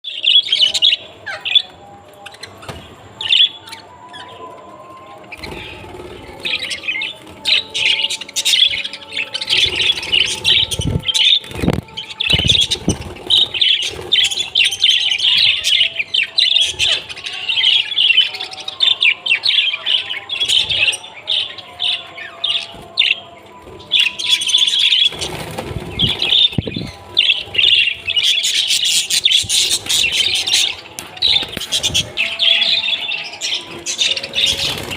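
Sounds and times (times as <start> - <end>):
parrots chirping and chattering: 0.1 - 34.9.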